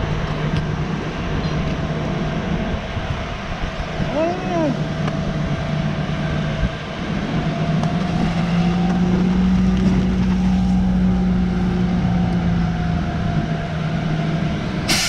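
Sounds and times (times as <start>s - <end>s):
fire engine pump running: 0.0s - 15.0s.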